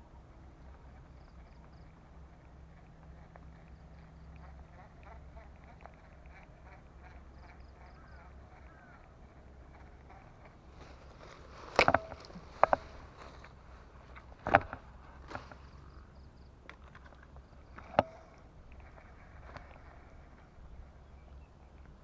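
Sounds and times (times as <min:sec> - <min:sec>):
faint steady background: 0:00.0 - 0:22.0.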